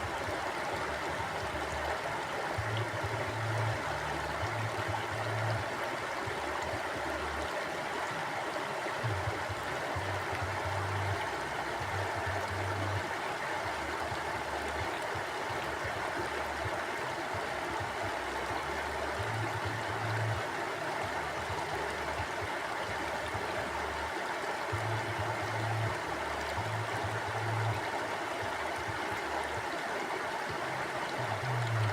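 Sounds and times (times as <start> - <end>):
stream flowing over rocks: 0.0 - 31.9.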